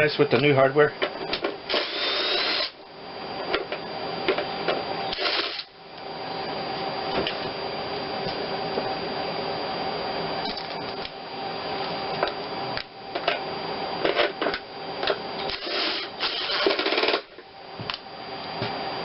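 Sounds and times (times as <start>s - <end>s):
steady shop hum: 0.0s - 19.0s.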